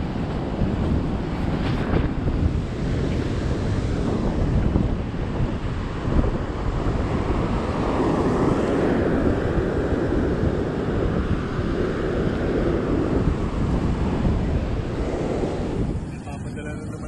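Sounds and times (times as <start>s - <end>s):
ocean surf rushing: 0.0s - 17.0s
wind buffeting microphone: 0.0s - 17.0s.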